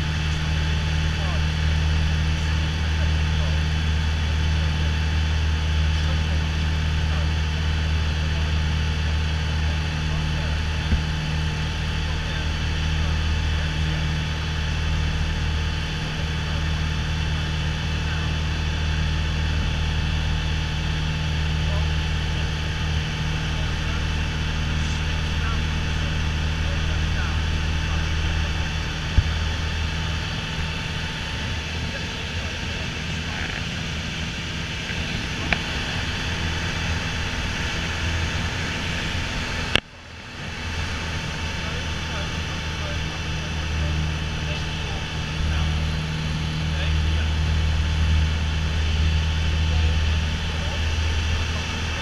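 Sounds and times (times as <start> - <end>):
airplane engine droning in flight: 0.0 - 52.0.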